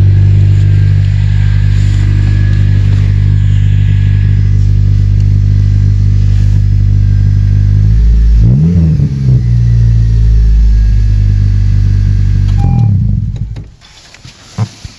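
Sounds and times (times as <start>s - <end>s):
car engine idling and revving: 0.0s - 14.1s.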